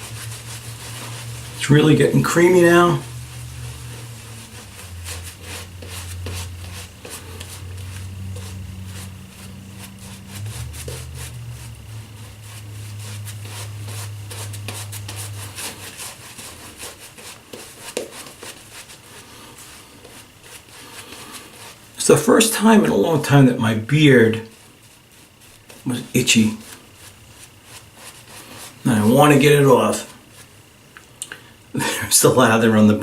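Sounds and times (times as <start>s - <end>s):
shaving brush scrubbing lather: 0.0s - 30.6s
low steady hum: 0.0s - 33.0s.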